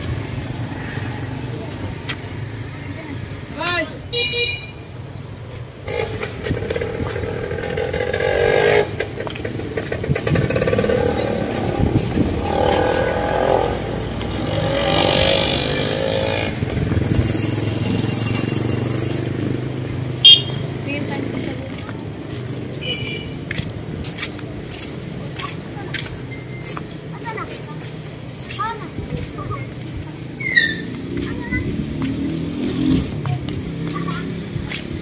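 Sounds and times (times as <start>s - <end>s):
motorcycles passing: 0.0s - 35.0s.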